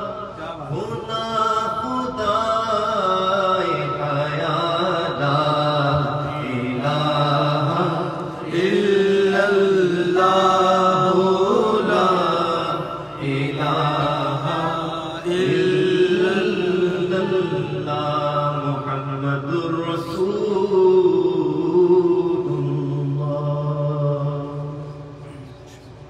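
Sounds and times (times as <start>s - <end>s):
man chanting into microphone: 0.0s - 26.0s.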